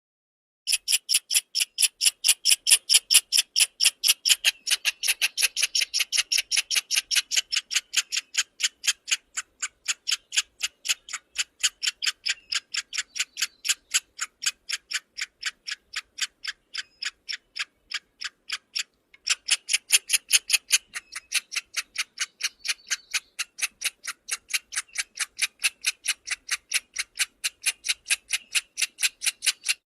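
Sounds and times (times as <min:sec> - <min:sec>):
squirrel chirping: 0:00.7 - 0:29.8.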